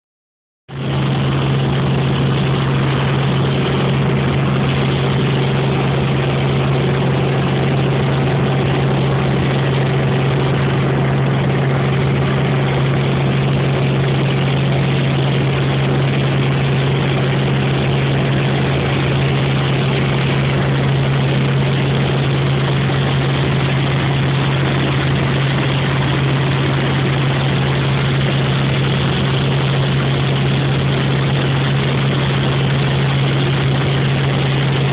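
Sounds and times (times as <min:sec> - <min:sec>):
helicopter engine and rotors: 0:00.7 - 0:34.9.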